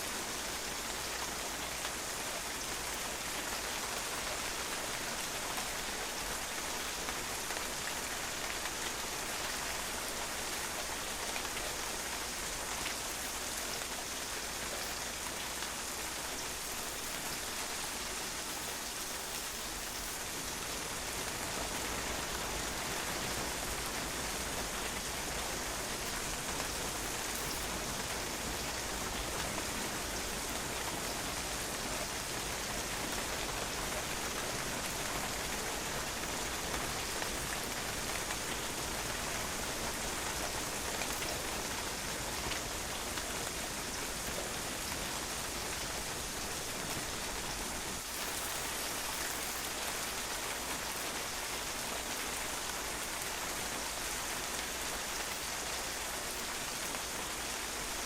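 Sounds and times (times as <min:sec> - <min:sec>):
rain falling on patio: 0:00.0 - 0:58.0.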